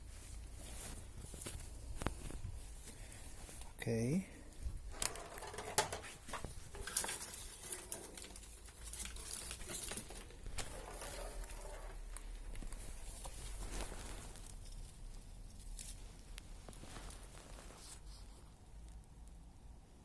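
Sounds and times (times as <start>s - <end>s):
small fire crackling: 0.0s - 20.0s.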